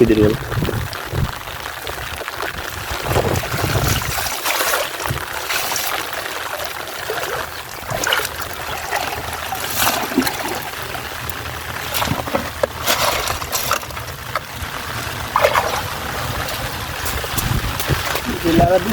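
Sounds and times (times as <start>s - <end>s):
water trickling and splashing: 0.0s - 18.9s.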